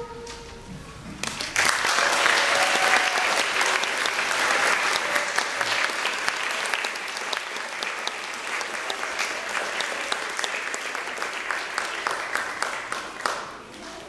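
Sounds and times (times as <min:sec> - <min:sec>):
audience applauding: 0:01.2 - 0:13.7.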